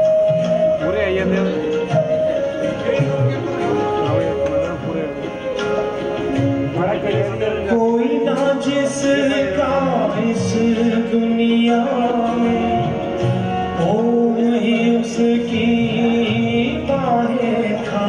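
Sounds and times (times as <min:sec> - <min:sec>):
bamboo flute melody: 0:00.0 - 0:08.4, 0:09.6 - 0:18.0
acoustic guitar: 0:00.0 - 0:18.0
tabla: 0:00.0 - 0:18.0.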